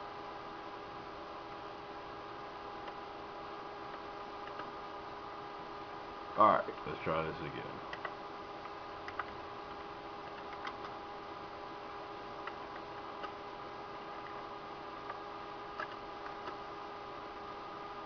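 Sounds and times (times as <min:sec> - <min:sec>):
computer hum with tones: 0:00.0 - 0:18.0.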